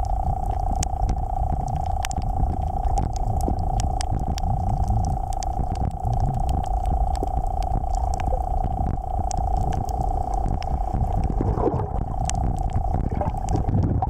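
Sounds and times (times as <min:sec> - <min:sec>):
sharp clicks: 0:00.0 - 0:13.9
constant hum: 0:00.0 - 0:14.0
underwater surging water rumble: 0:00.0 - 0:14.0
water gurgling swirl: 0:00.0 - 0:14.0.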